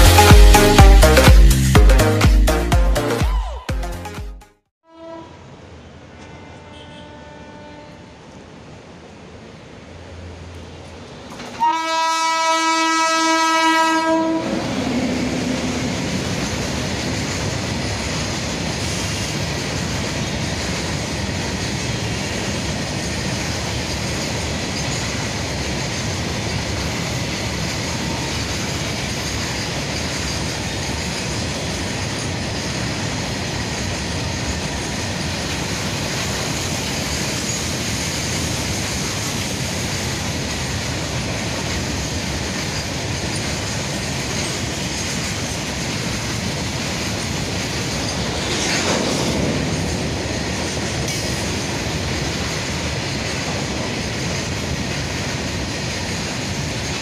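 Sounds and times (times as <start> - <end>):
freight train wheels rumbling: 5.2 - 57.0.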